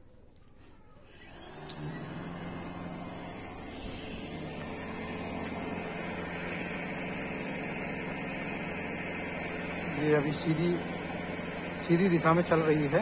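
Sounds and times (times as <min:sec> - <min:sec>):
electric motor whining: 0:01.0 - 0:13.0.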